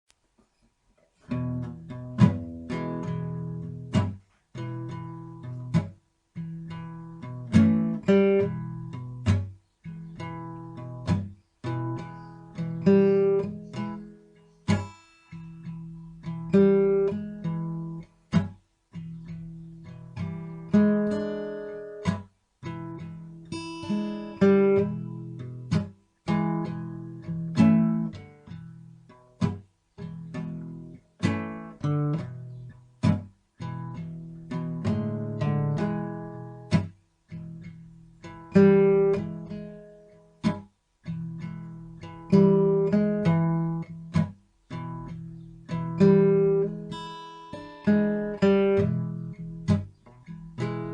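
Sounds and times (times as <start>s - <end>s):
acoustic guitar strumming chords: 1.2s - 50.9s.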